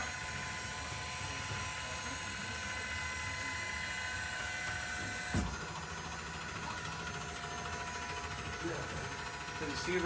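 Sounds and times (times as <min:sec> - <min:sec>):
electric lift motors whining: 0:00.0 - 0:10.0.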